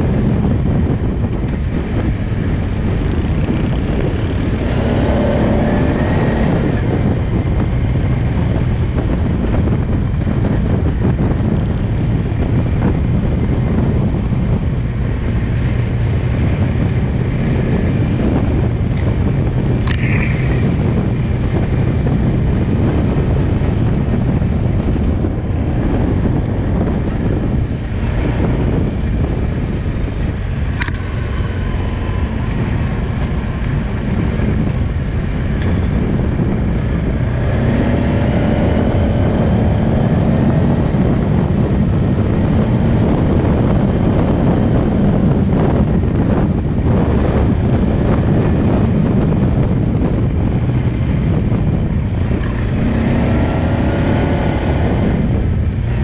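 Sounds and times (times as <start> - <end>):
quad bike engine running: 0.0 - 56.0
wind buffeting microphone: 0.0 - 56.0.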